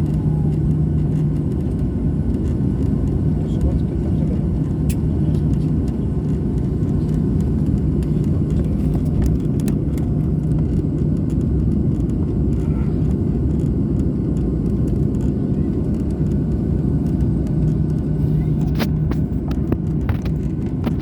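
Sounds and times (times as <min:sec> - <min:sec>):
airliner cabin rumble: 0:00.0 - 0:21.0
low hum: 0:00.0 - 0:21.0.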